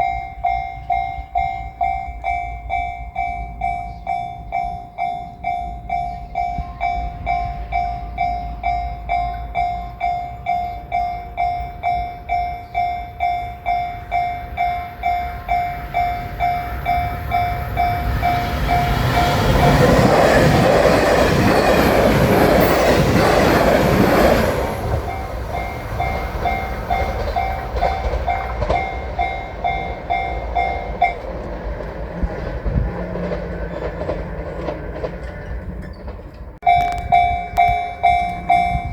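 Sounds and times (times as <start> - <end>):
level crossing warning bell: 0.0 - 38.9
train passing: 0.0 - 38.9.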